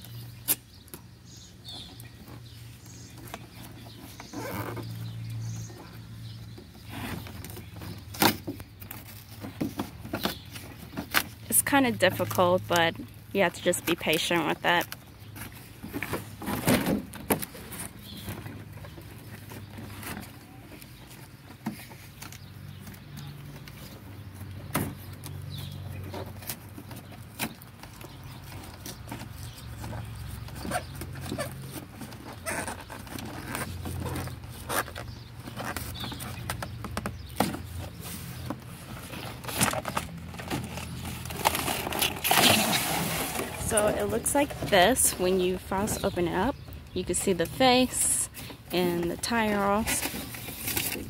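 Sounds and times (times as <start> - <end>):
cardboard and plastic crinkling: 6.5 - 22.9, 26.0 - 51.0.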